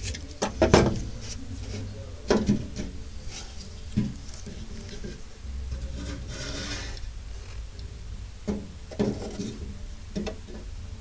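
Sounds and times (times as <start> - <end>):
metal scraping against tank: 0.0 - 7.1, 8.5 - 10.7.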